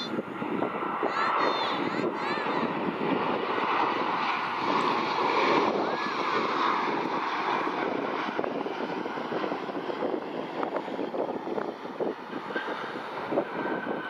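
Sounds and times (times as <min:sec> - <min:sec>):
distant jet engines droning: 0:00.0 - 0:14.0
wind buffeting microphone: 0:00.0 - 0:14.0.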